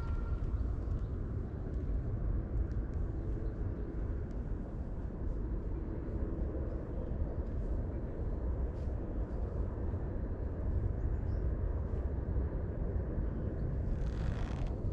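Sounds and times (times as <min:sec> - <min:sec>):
low outdoor rumble: 0:00.0 - 0:14.9.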